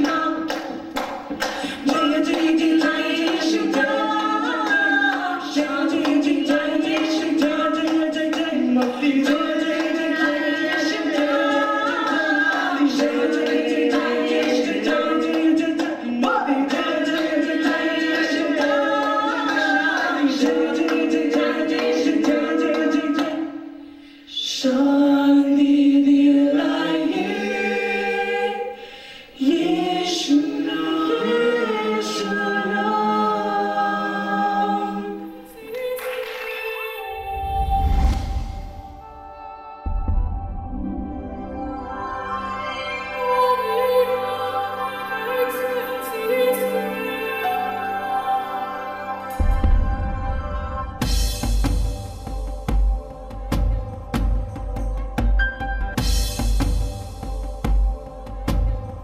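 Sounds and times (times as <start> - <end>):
group singing a cappella: 0.0 - 39.6, 43.1 - 51.3.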